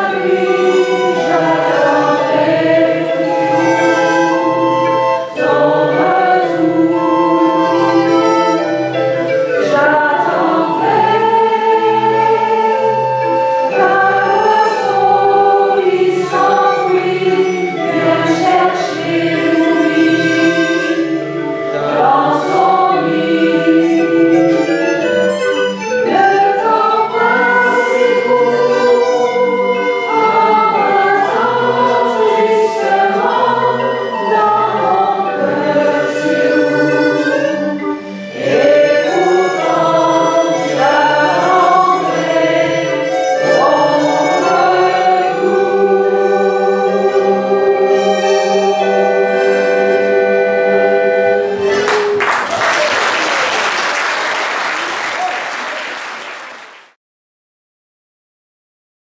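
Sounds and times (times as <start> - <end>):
voices singing: 0.0 - 51.9
accordion: 0.0 - 52.5
barrel organ: 0.0 - 52.5.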